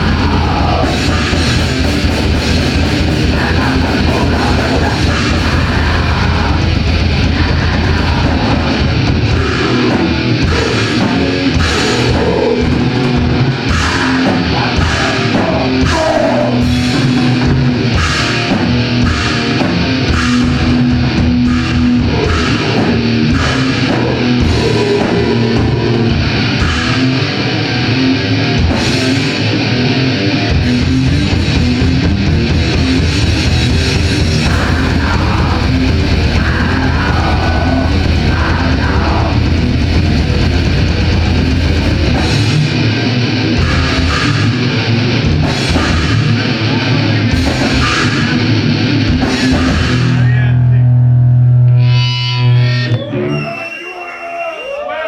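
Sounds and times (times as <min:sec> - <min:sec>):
drum kit: 0:00.0 - 0:50.7
continuous low pounding: 0:00.0 - 0:51.4
distorted electric guitar: 0:00.0 - 0:53.8.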